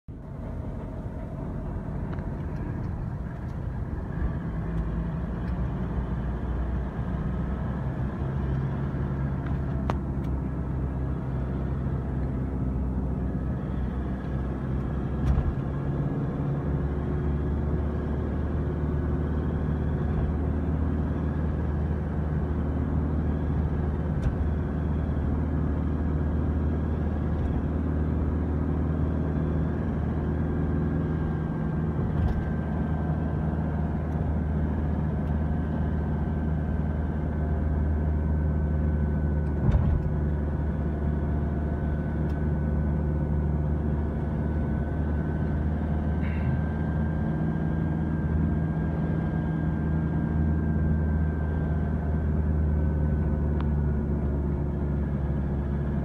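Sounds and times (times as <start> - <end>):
car engine and tyre noise: 0.1 - 56.0.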